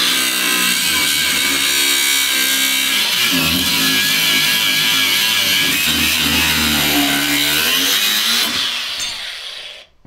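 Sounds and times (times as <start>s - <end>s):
angle grinder cutting metal: 0.0s - 9.9s.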